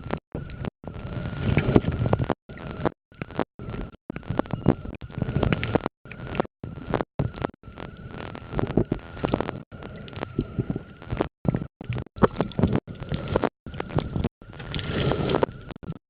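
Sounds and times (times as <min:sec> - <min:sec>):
faint steady whine: 0:00.0 - 0:16.0
water noise: 0:00.3 - 0:15.9.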